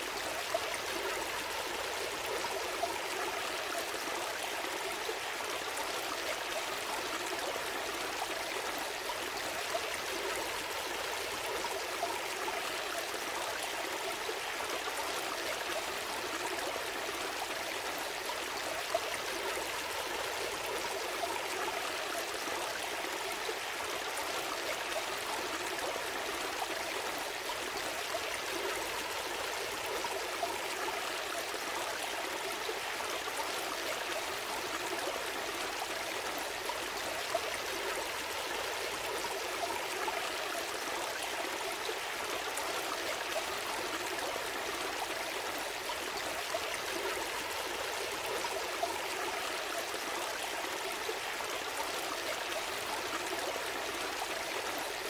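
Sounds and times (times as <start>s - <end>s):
stream trickling and babbling: 0.0s - 55.0s.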